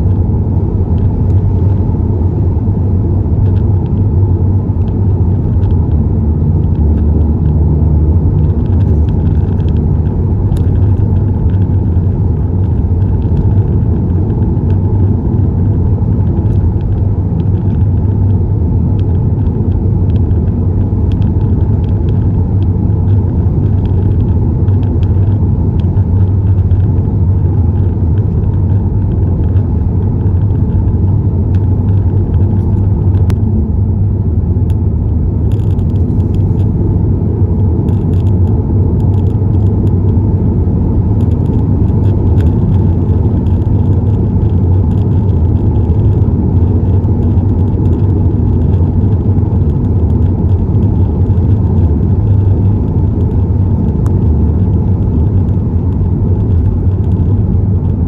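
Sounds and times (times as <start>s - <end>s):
car driving rumble from inside: 0.0s - 58.0s.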